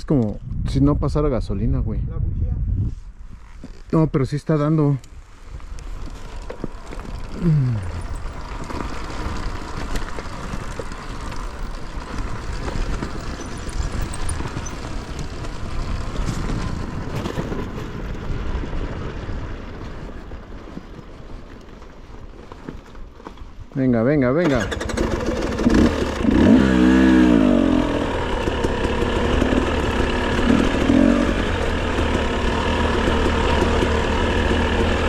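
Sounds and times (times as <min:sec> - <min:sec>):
dirt bike engine running: 0:05.4 - 0:23.3, 0:24.5 - 0:35.0.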